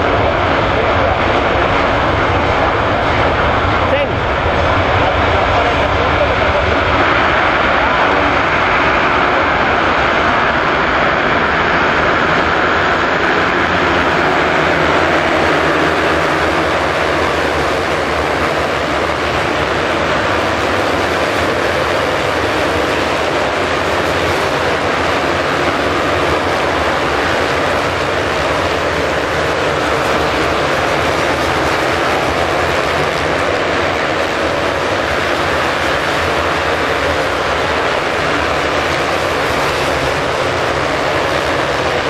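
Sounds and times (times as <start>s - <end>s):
dirt bike engines droning: 0.0s - 42.0s.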